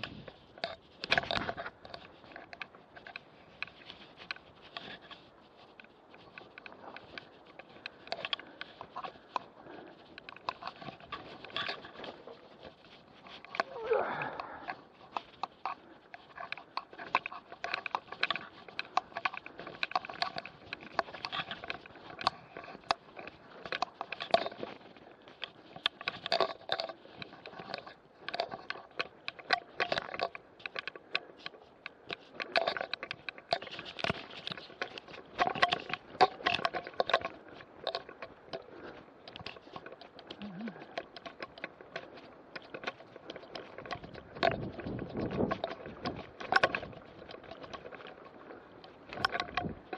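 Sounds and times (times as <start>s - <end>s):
bike clicking and rattling: 0.0s - 49.9s.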